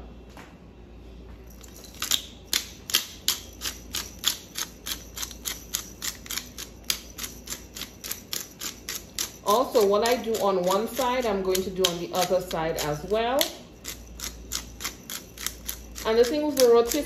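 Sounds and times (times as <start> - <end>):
pepper grinder clicking: 1.6 - 17.0.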